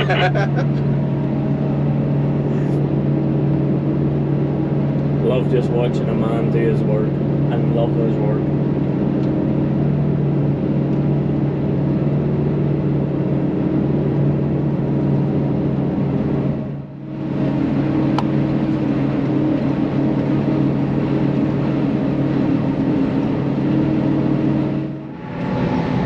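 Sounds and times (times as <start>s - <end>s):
harvester engine droning: 0.0s - 26.0s.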